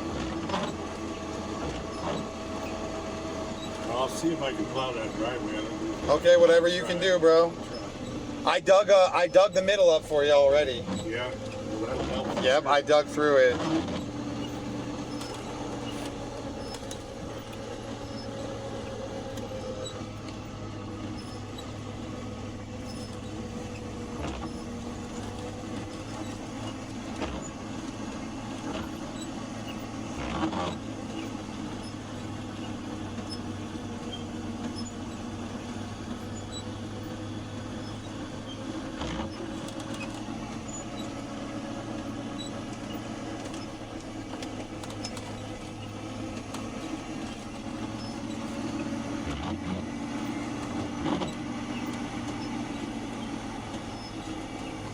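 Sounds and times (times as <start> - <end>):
truck engine humming: 0.0 - 54.9.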